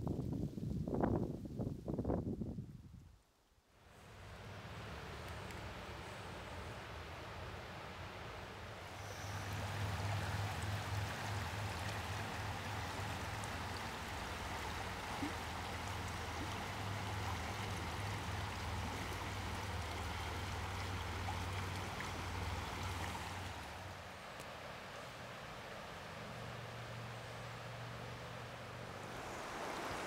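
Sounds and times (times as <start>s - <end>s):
river flowing over stones: 4.1s - 30.0s.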